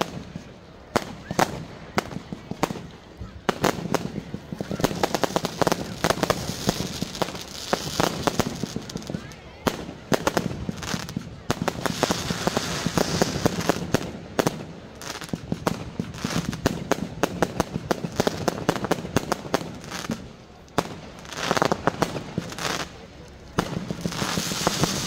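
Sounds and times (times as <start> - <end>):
fireworks cracking and popping: 0.0 - 25.0.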